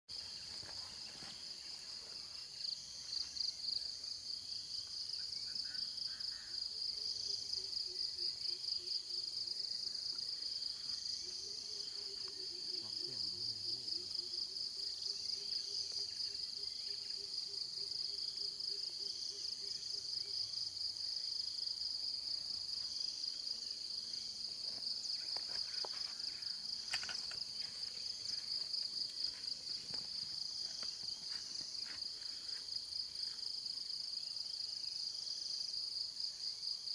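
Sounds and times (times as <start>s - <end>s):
insect chorus trilling: 0.1s - 36.9s.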